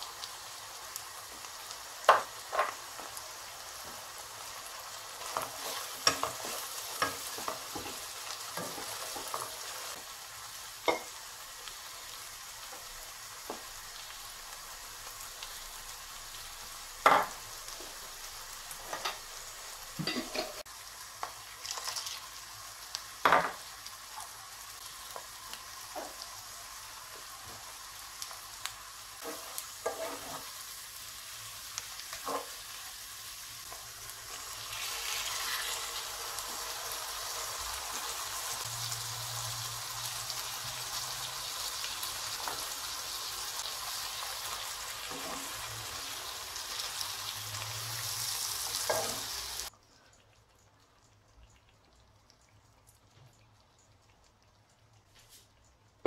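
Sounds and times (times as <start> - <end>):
onions sizzling in butter: 0.0 - 49.8.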